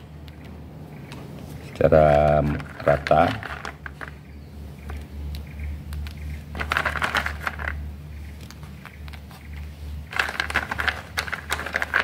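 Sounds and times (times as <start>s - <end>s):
steady low hum: 0.0s - 12.0s
seeds rustling and clicking: 1.1s - 12.0s.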